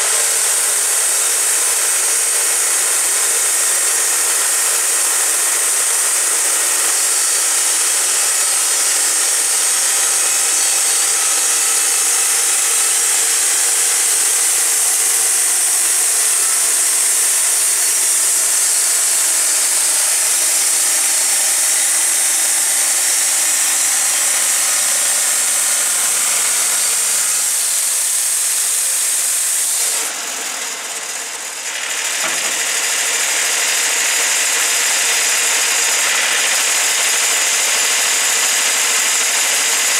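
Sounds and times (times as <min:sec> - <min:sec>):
bandsaw blade cutting log: 0:00.0 - 0:39.9
sawmill engine running: 0:00.0 - 0:39.9.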